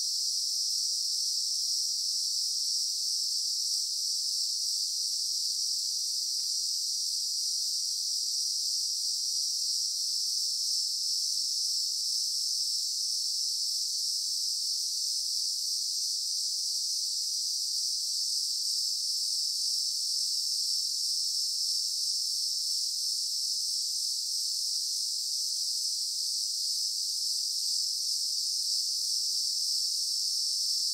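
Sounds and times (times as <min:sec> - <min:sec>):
high-pitched insect chorus: 0:00.0 - 0:30.9.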